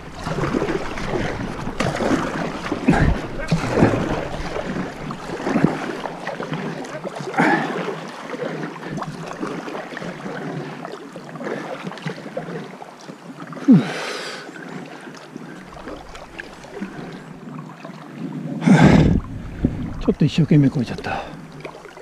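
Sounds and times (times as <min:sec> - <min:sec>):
paddle splashing in water: 0:00.0 - 0:22.0.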